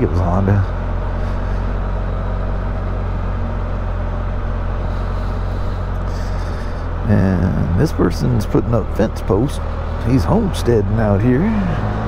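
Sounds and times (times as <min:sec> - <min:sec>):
engine hum: 0:00.0 - 0:12.0
wind and road noise: 0:00.0 - 0:12.0.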